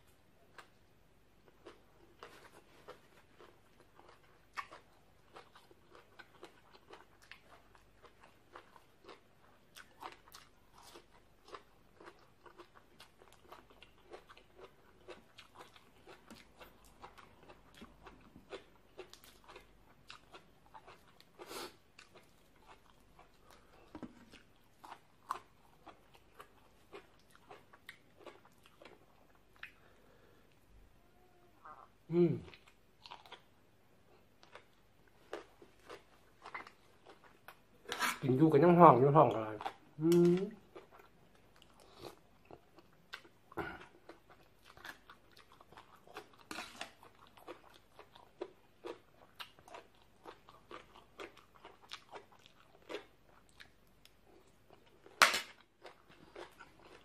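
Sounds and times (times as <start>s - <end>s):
chewing crisp vegetables: 0.0s - 57.0s.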